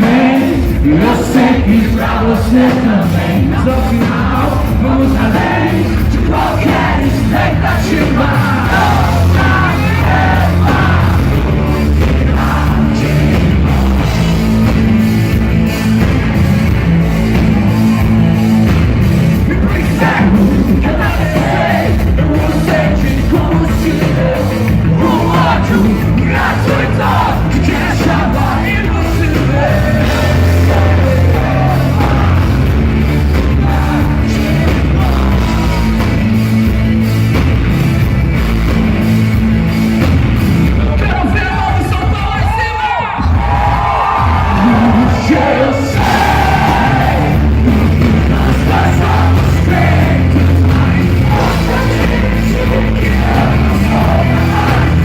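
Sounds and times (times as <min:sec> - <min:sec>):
lead vocal singing: 0:00.0 - 0:37.0, 0:40.7 - 0:55.0
rock band playing live: 0:00.0 - 0:55.0.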